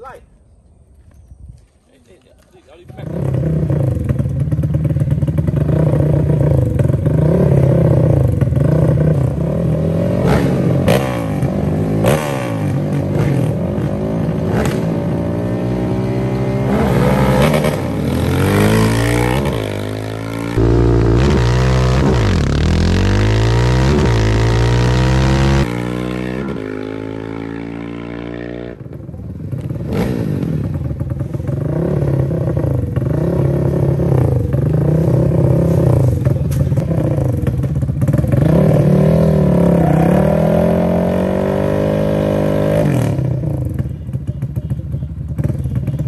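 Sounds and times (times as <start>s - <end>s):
atv engines at full throttle: 2.6s - 46.0s.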